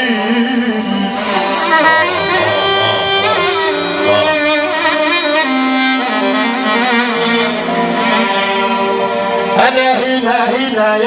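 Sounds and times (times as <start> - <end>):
violin melody with vibrato: 0.1 - 11.0.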